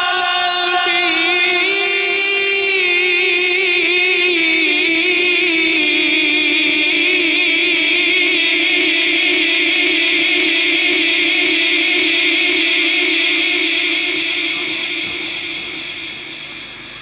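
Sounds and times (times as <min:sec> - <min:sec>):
man chanting a long note: 0:00.0 - 0:16.3.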